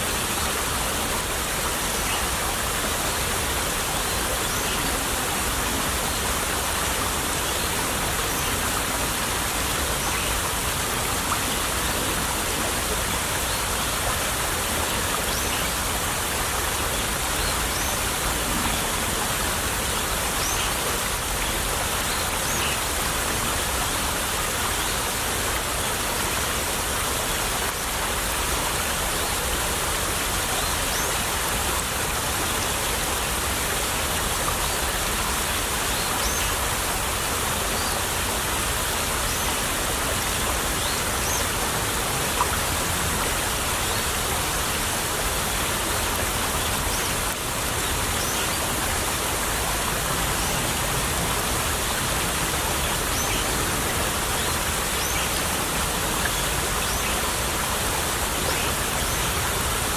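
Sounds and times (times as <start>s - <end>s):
stream trickling over stones: 0.0s - 59.9s.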